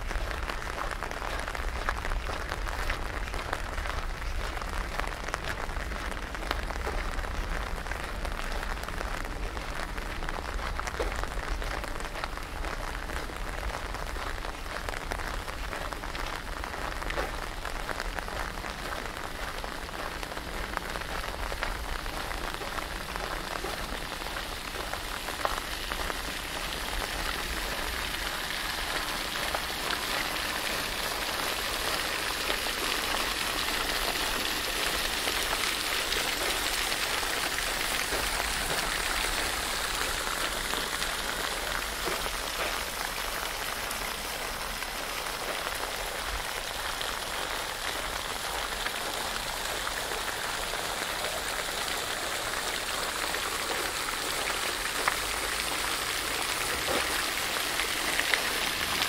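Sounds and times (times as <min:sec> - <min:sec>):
rain hissing on pavement: 0:00.0 - 0:59.0
raindrop ticks: 0:00.0 - 0:59.0.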